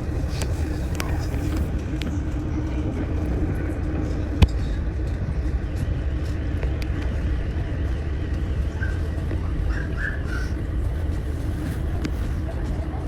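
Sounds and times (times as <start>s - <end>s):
ship engines rumbling: 0.0s - 13.0s.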